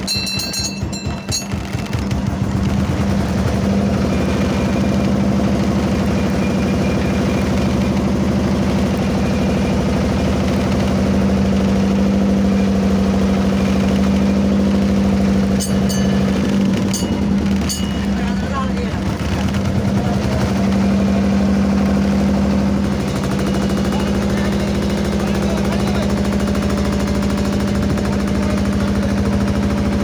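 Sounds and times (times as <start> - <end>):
boat engine idling: 0.0 - 30.0.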